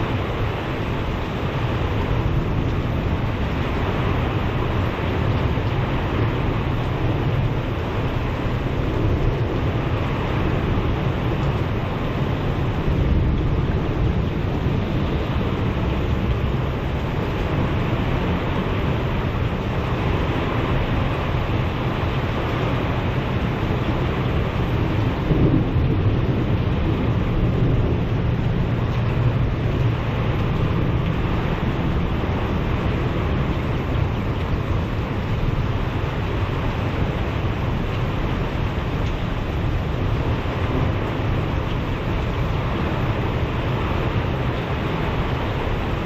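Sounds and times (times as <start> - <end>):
deep rumble: 0.0 - 46.0
heavy rain and wind: 0.0 - 46.0.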